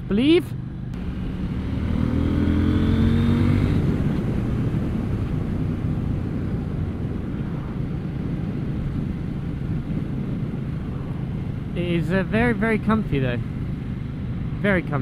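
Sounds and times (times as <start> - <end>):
motorcycle engine accelerating: 0.6 - 15.0
wind rushing over microphone: 0.6 - 15.0.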